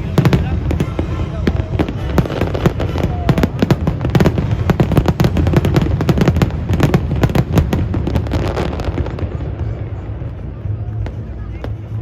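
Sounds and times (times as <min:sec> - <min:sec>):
continuous low rumble: 0:00.0 - 0:12.0
fireworks bursting: 0:00.0 - 0:12.0.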